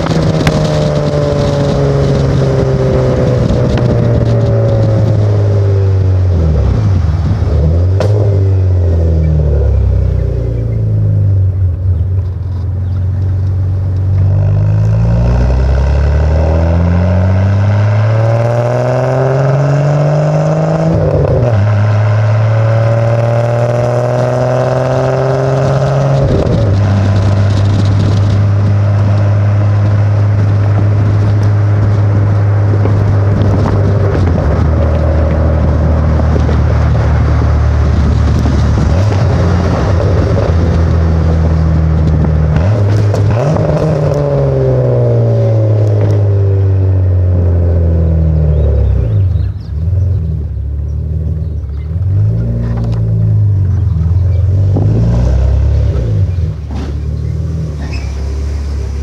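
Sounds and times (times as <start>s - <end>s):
car engine revving and shifting: 0.0s - 11.5s, 13.9s - 59.0s.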